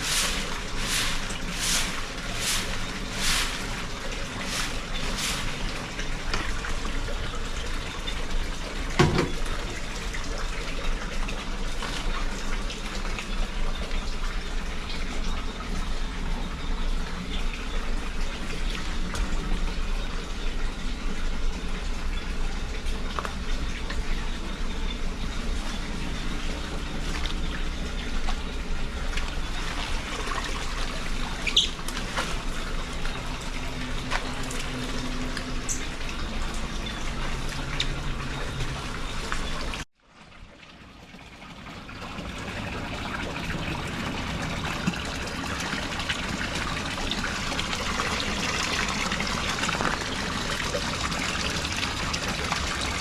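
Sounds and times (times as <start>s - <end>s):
water rushing: 0.0s - 39.9s, 41.8s - 53.0s.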